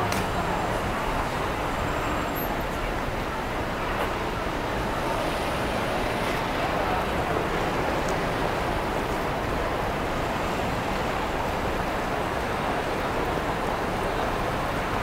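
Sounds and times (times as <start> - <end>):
street hum: 0.0 - 15.0.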